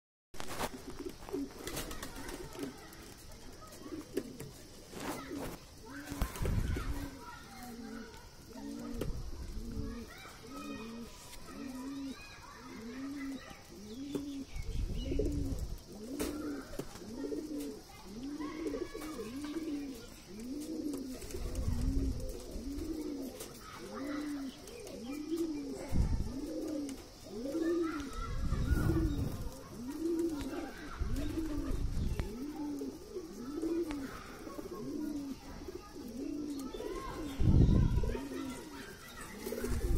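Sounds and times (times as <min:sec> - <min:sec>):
pigeon cooing: 0:00.6 - 0:39.9.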